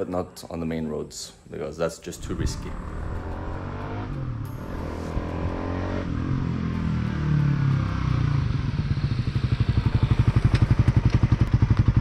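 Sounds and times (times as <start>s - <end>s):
motorcycle engine approaching: 2.2s - 12.0s.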